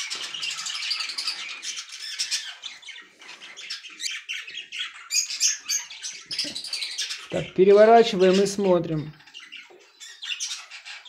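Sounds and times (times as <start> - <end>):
budgerigar nestlings chirping: 0.0 - 11.0.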